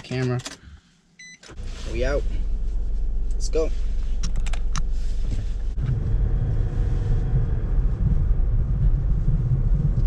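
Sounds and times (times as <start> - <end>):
car engine rumble: 1.5 - 10.0.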